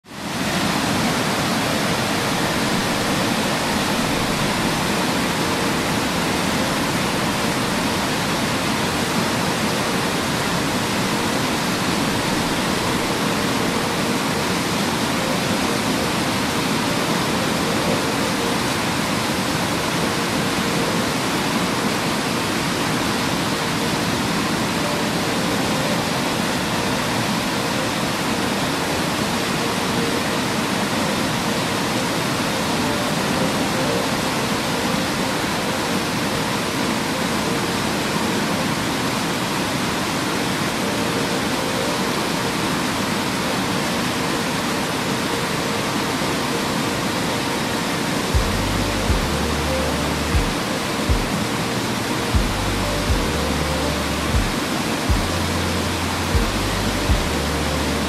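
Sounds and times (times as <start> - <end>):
waterfall into a pool: 0.0 - 58.0.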